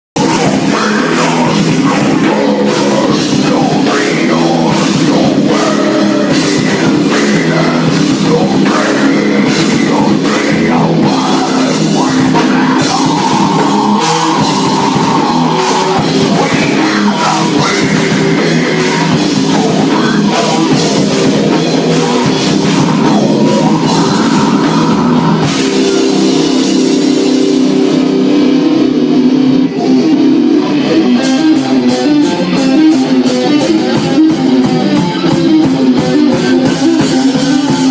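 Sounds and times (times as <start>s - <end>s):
rock band playing live: 0.2s - 37.9s.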